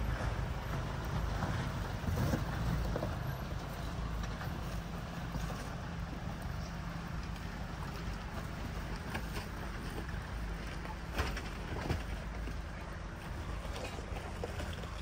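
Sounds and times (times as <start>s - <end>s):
low engine rumble: 0.0s - 15.0s
knocks and rattles from bumps: 0.1s - 15.0s.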